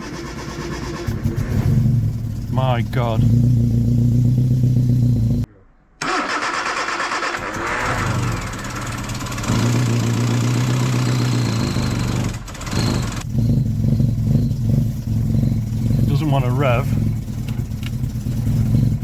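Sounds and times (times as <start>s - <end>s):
car engine running rough: 0.0s - 5.5s, 7.4s - 19.0s.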